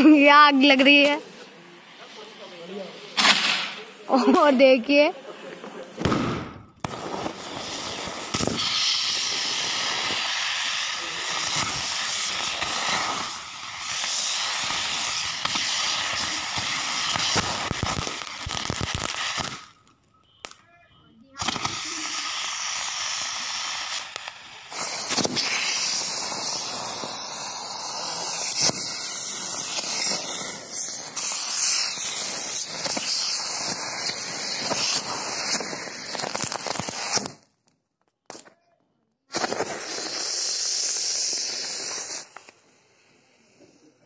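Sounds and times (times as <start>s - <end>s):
rocket fireworks hissing: 0.0s - 20.6s, 21.3s - 37.5s, 39.3s - 44.0s
sharp firework pops: 3.1s - 3.9s, 5.8s - 20.6s, 21.4s - 38.6s, 39.3s - 42.7s.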